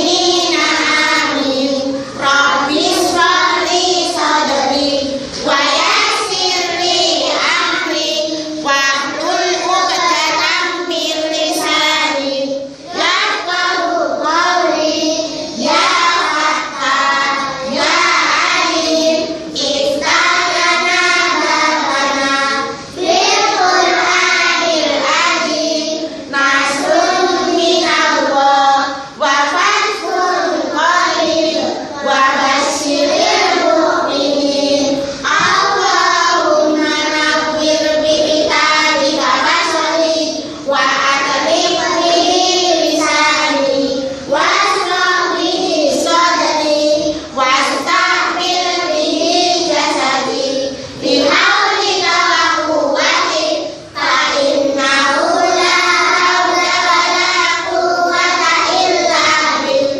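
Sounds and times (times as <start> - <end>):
children singing in unison: 0.0 - 59.9.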